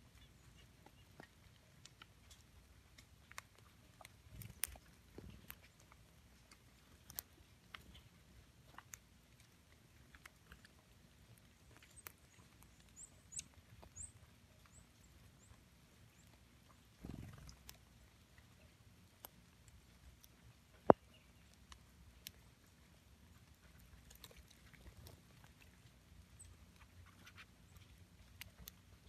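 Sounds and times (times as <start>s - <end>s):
birds foraging in dry leaves: 0.0s - 29.0s.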